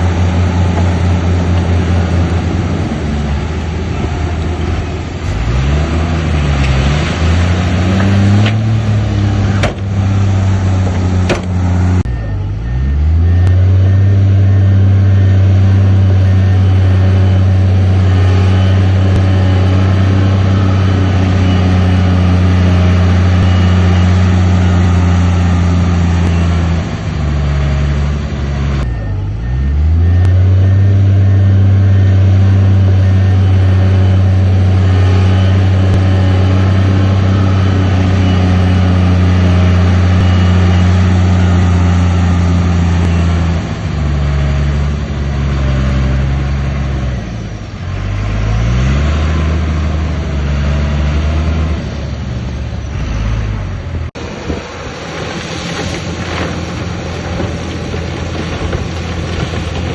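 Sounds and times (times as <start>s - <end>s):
heavy diesel engine running hard: 0.0s - 59.9s.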